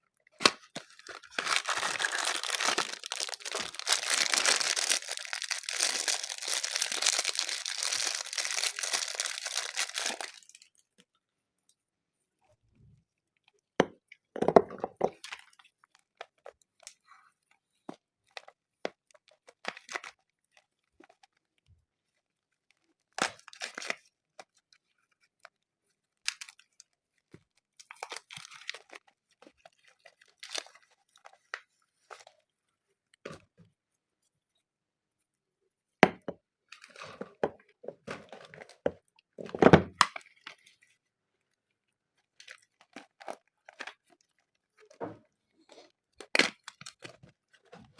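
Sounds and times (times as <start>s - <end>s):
soap wrapping crinkling and tearing: 0.2s - 11.1s, 15.0s - 17.1s, 17.8s - 33.6s, 36.7s - 47.9s.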